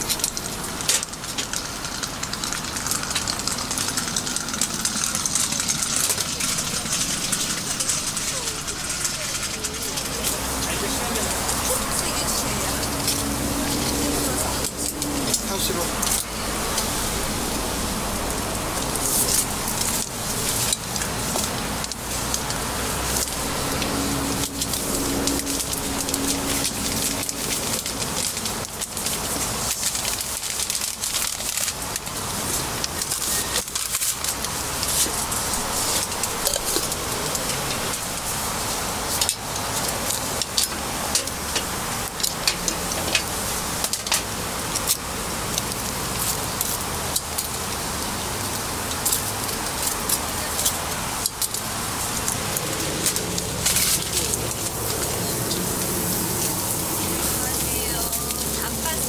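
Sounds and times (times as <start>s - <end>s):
batter sizzling in hot molds: 0.0s - 59.0s
burner flames hissing: 0.0s - 59.0s.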